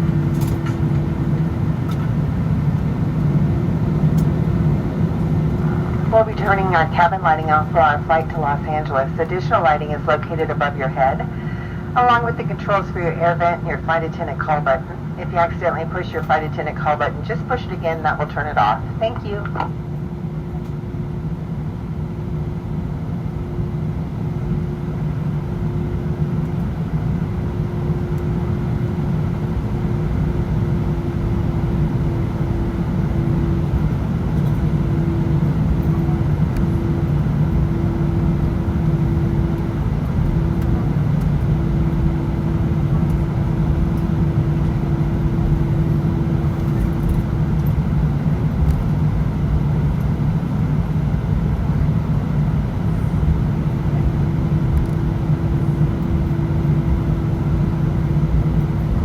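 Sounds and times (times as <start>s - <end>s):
aircraft cabin engine rumble: 0.0s - 59.0s
constant hum-like tone: 0.0s - 59.0s.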